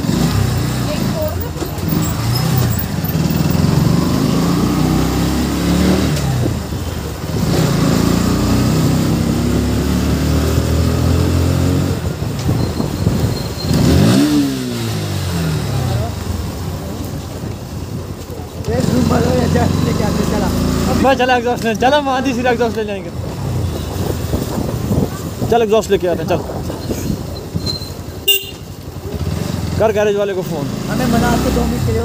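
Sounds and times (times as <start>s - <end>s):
motorcycle engine revving: 0.0s - 17.0s, 18.6s - 25.4s, 27.2s - 32.0s.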